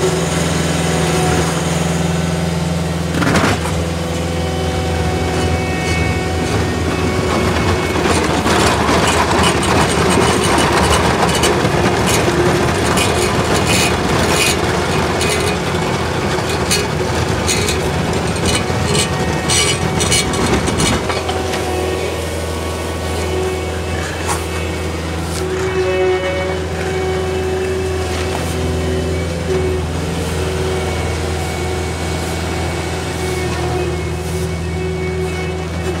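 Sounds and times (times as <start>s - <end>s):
engine drone: 0.0s - 36.0s
cutting drum grinding: 3.1s - 36.0s.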